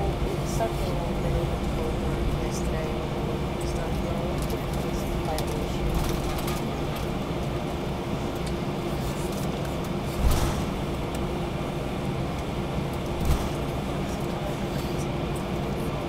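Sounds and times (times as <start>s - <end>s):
aircraft cabin hum: 0.0s - 16.0s.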